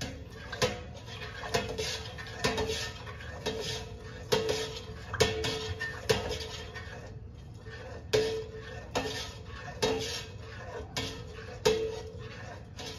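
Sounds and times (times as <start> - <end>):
ladle knocking metal pot: 0.0 - 6.8, 8.0 - 12.9
ladle stirring in pot: 0.0 - 12.9.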